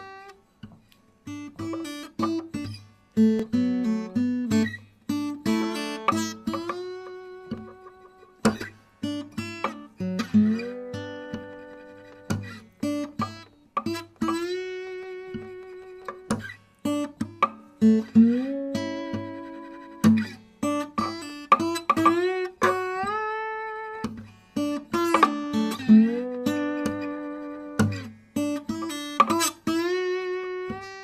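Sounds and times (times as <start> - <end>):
slow plucked guitar melody: 0.0 - 31.0.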